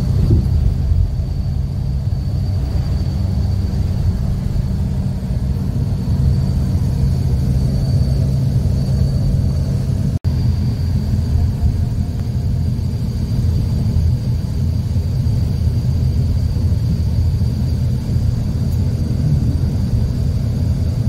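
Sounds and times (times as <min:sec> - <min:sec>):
faint high whine: 0:00.0 - 0:21.0
road and engine rumble: 0:00.0 - 0:21.0.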